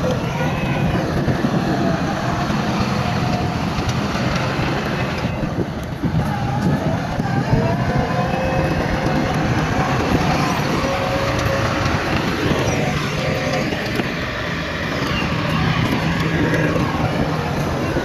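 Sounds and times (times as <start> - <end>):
diesel construction machinery running: 0.0 - 18.0.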